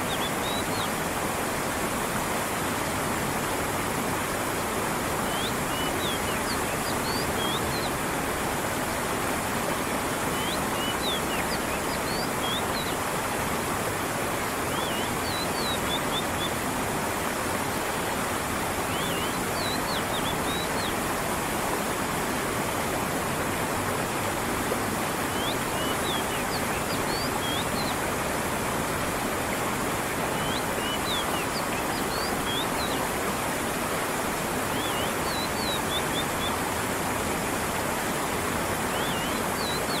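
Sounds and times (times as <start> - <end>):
creek water running: 0.0 - 40.0.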